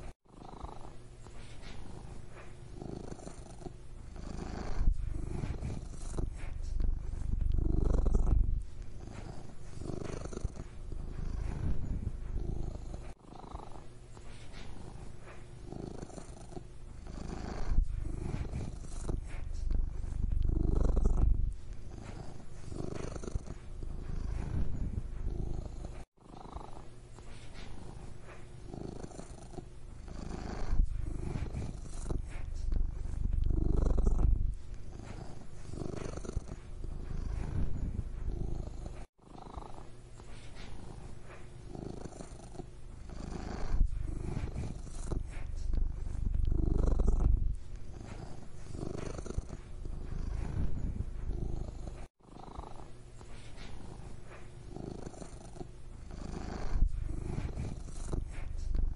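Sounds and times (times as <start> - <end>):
cat purring: 0.0 - 58.9.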